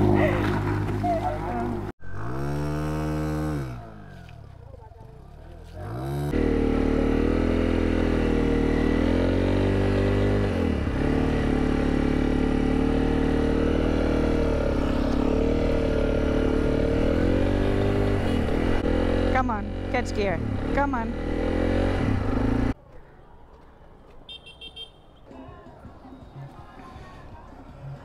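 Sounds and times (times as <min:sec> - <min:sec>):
motorcycle engine revving: 0:00.0 - 0:22.8.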